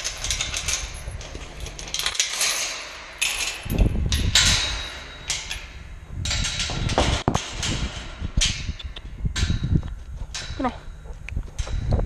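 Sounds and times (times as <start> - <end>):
metal gate clanking and rattling: 0.0 - 12.0.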